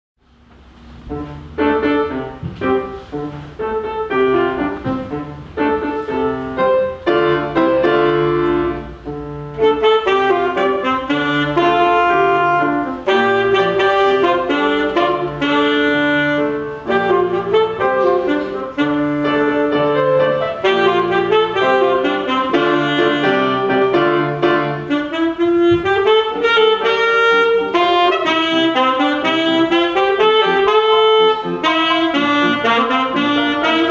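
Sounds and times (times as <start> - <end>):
piano chords: 0.2 - 33.9
alto saxophone melody: 0.5 - 33.9.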